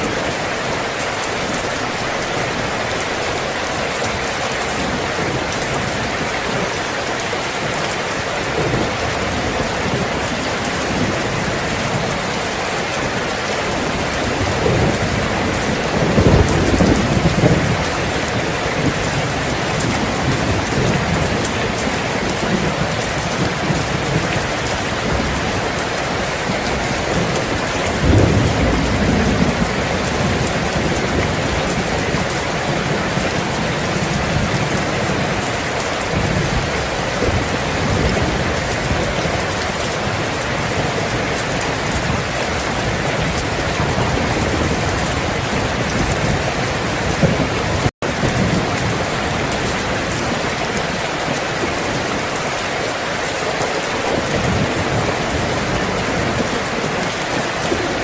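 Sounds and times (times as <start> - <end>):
heavy rain: 0.0 - 58.0
thunder rumbling: 0.0 - 58.0.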